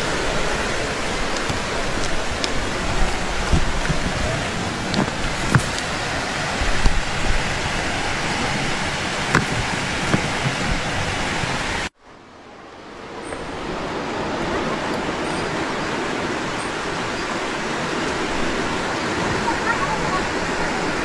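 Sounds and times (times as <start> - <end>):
fast river rushing: 0.0 - 21.0.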